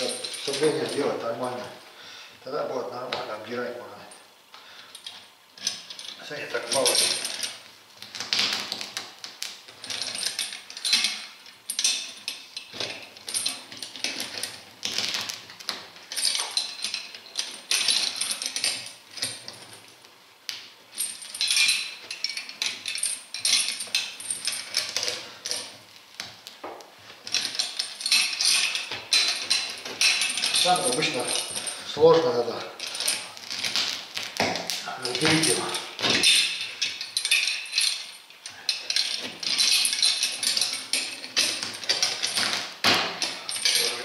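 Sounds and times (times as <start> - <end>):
metal pincers and chain clinking: 0.0 - 1.7, 4.9 - 8.8, 9.7 - 20.0, 20.9 - 25.8, 27.2 - 44.0.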